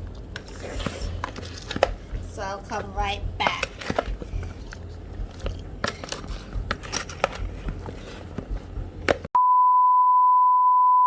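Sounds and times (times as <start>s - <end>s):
low steady hum: 0.0s - 9.3s.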